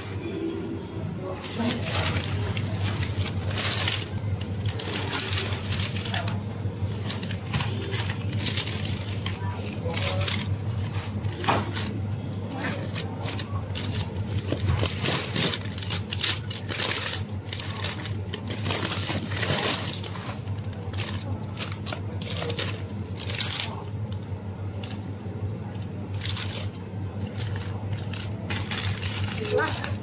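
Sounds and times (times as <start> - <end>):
freezer hum: 0.0 - 30.0
plastic packets crinkling: 1.3 - 30.0.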